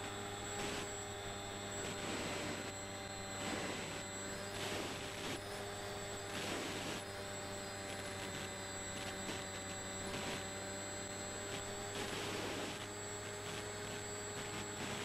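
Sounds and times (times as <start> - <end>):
steady multi-tone hum: 0.0 - 15.0.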